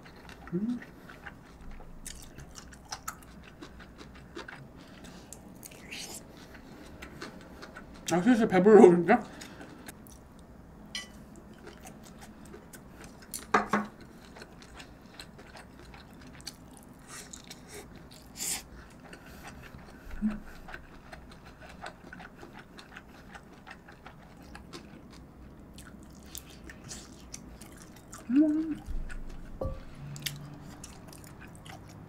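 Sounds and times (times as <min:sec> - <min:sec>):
person chewing food: 0:00.0 - 0:08.2, 0:09.2 - 0:32.0.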